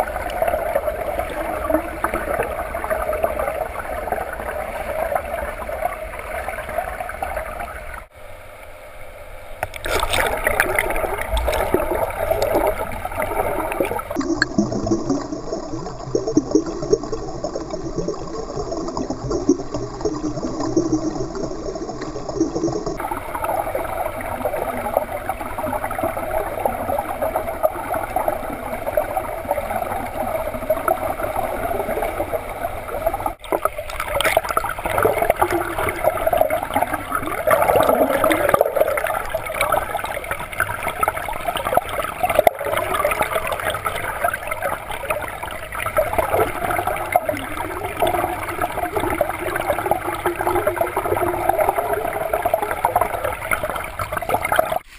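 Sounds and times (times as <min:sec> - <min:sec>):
underwater swimming water rushing: 0:00.0 - 0:08.1, 0:09.6 - 0:54.9.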